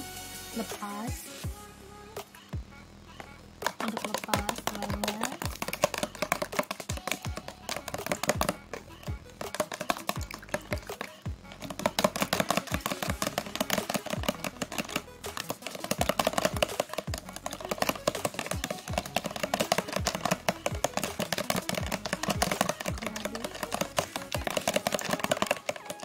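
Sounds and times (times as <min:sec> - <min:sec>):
background music with beat: 0:00.0 - 0:26.0
spoon tapping plastic container: 0:03.6 - 0:26.0.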